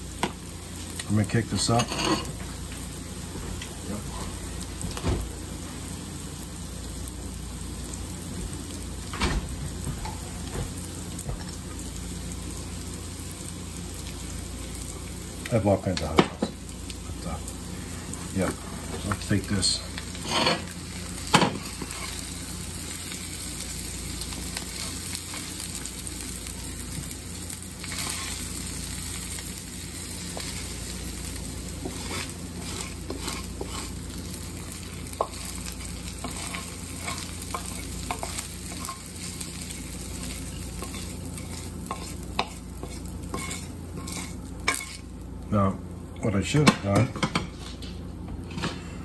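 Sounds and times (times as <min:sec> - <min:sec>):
food sizzling in a frying pan: 0:00.0 - 0:46.6.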